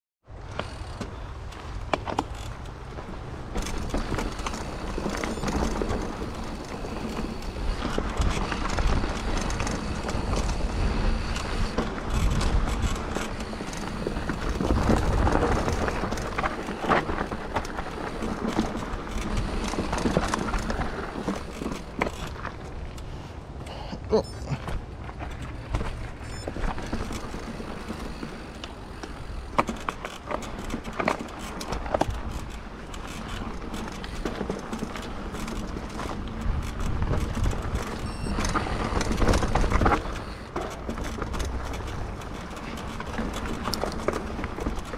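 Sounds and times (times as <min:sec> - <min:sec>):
tyres rumbling on trail: 0:00.2 - 0:44.9
bike clicks and rattles: 0:00.3 - 0:44.9.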